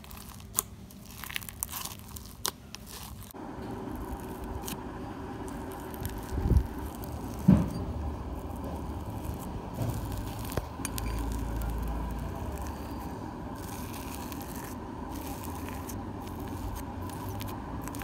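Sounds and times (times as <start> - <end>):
slime kneaded by fingers: 0.0 - 4.8, 5.4 - 18.0.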